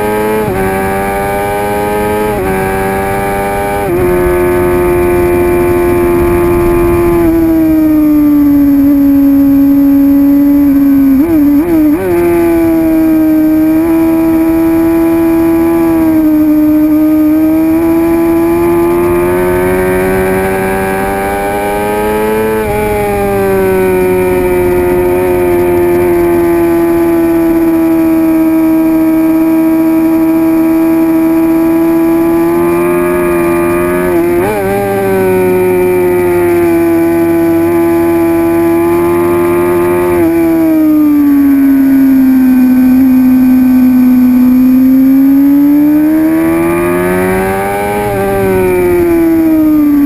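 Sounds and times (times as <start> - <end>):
motorcycle engine at high revs: 0.0 - 50.0.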